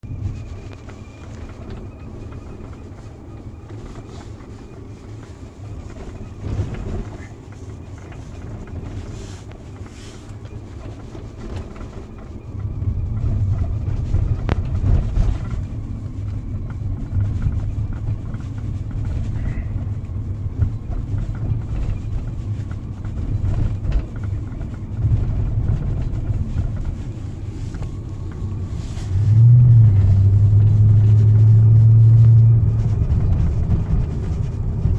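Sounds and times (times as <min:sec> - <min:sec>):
car engine low rumble: 0:00.0 - 0:34.9.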